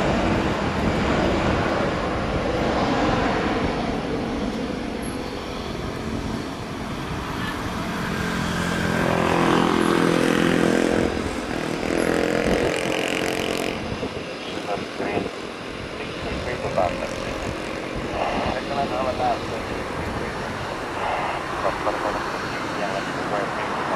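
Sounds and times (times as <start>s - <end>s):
jet engine rush: 0.0s - 23.9s
jet engine whine: 0.0s - 23.9s.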